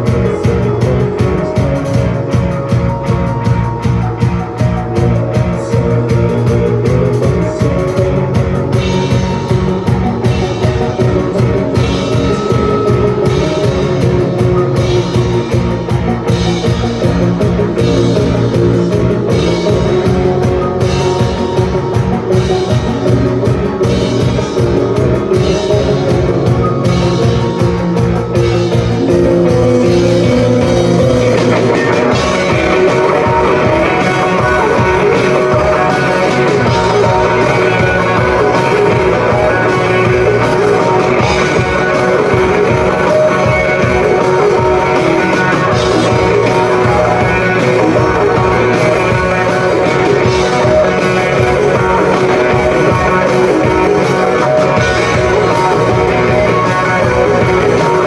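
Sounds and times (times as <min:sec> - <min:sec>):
driving drum beat: 0:00.0 - 0:58.0
electric guitars: 0:00.0 - 0:58.0.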